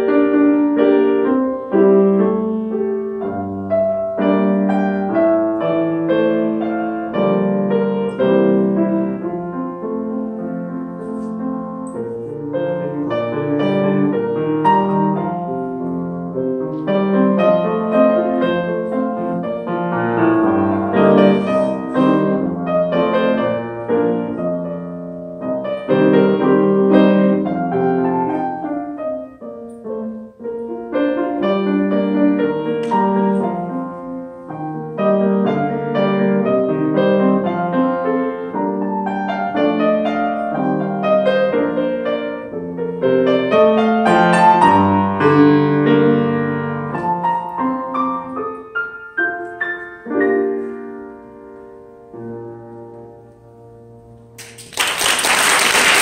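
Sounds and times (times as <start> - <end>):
solo piano: 0.0 - 56.0.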